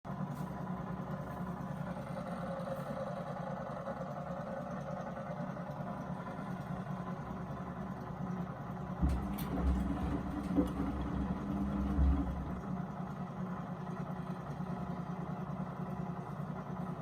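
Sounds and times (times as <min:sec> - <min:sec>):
washing machine humming and whirring: 0:00.1 - 0:17.0.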